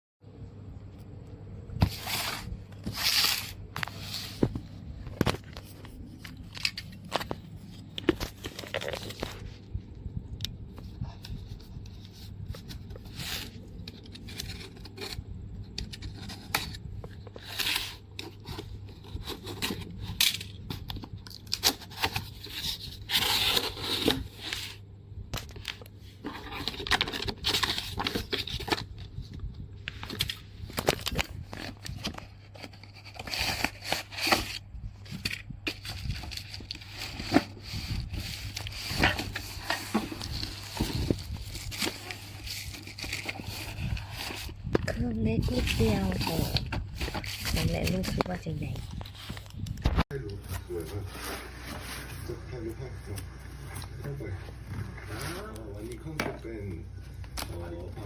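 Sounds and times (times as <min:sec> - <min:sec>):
packaging tearing and rustling: 0:01.8 - 0:09.6, 0:12.2 - 0:24.8, 0:25.4 - 0:52.3.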